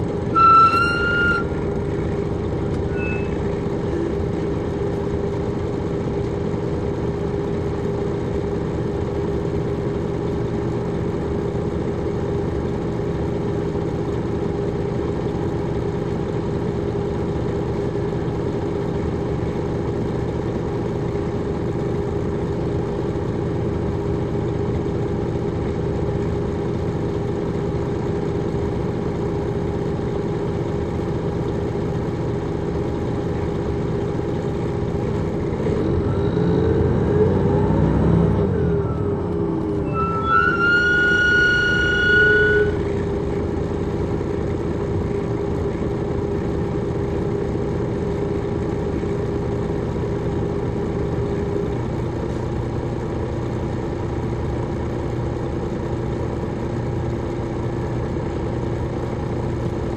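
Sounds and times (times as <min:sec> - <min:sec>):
diesel bus engine droning: 0:00.0 - 0:59.9.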